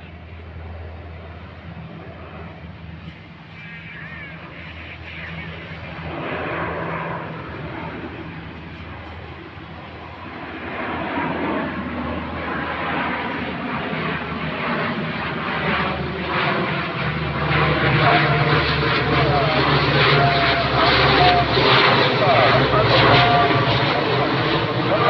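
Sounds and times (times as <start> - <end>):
aircraft engine drone: 0.0 - 25.0.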